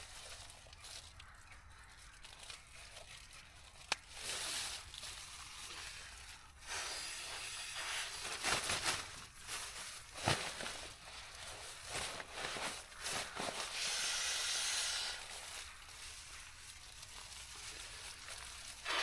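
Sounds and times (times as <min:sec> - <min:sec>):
rustling and crinkling: 0:00.0 - 0:19.0.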